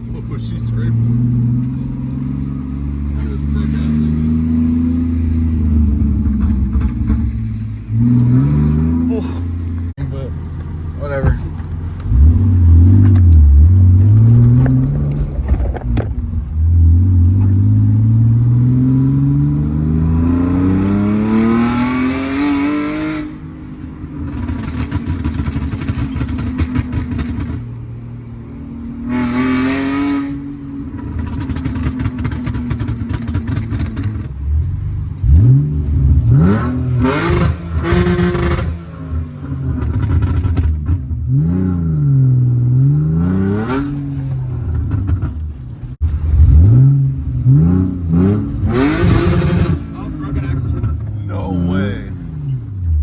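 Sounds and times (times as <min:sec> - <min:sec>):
car engine accelerating hard: 0:00.0 - 0:10.3, 0:11.0 - 0:23.4, 0:29.0 - 0:53.0.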